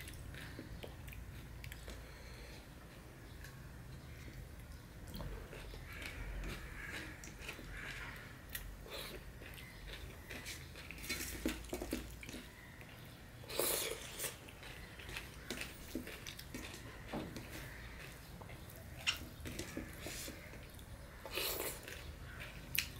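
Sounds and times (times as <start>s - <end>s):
person chewing: 4.2s - 22.9s.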